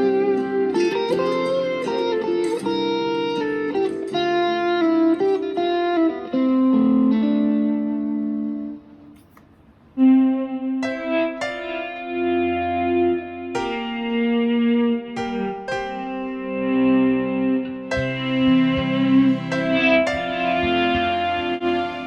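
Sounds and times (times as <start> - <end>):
electric guitar melody: 0.0 - 22.0.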